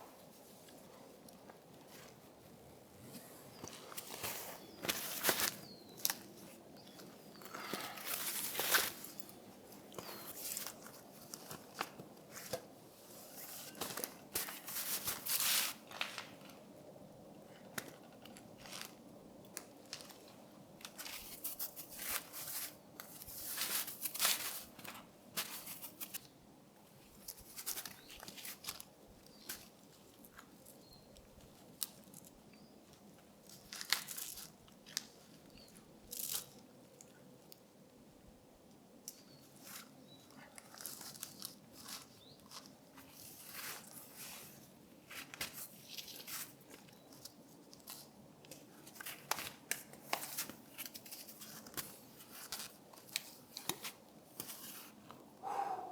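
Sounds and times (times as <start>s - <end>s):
crunching and rustling: 0.6s - 16.6s, 17.8s - 26.3s, 27.0s - 37.1s, 39.1s - 55.0s.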